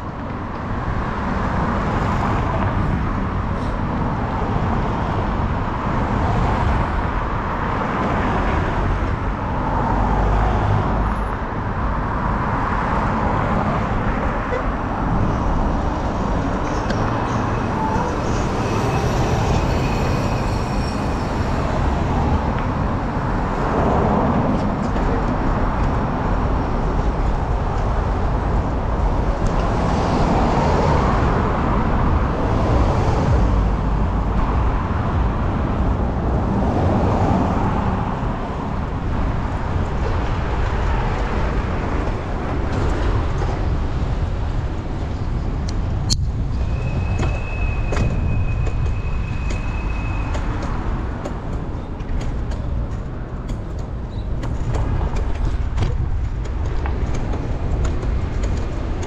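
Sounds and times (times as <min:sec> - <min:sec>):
city street traffic: 0:00.0 - 0:59.0.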